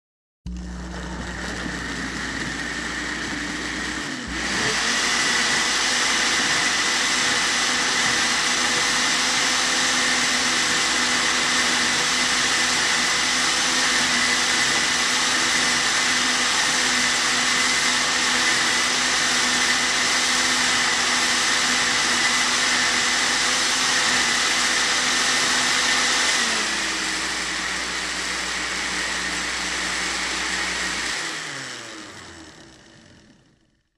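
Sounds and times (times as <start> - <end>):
electric blender whining: 0.5 - 33.9.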